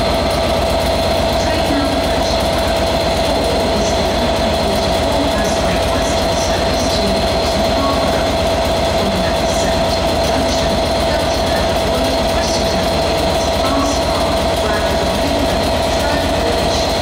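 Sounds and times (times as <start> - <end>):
constant whine: 0.0 - 17.0
diesel locomotive engine idling: 0.0 - 17.0.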